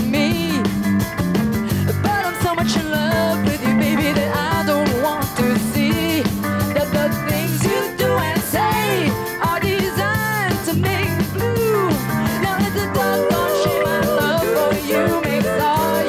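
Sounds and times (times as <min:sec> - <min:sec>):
woman singing: 0:00.0 - 0:00.7, 0:02.0 - 0:16.0
bass guitar: 0:00.0 - 0:16.0
drum kit: 0:00.0 - 0:16.0
electric guitar: 0:00.0 - 0:16.0.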